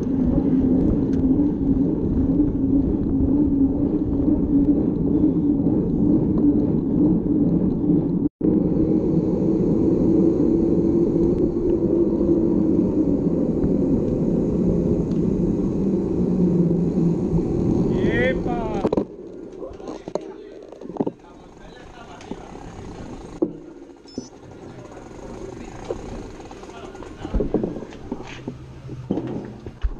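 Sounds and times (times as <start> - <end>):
bike tyres rolling: 0.0 - 29.9
wind rumble on microphone: 0.0 - 29.9.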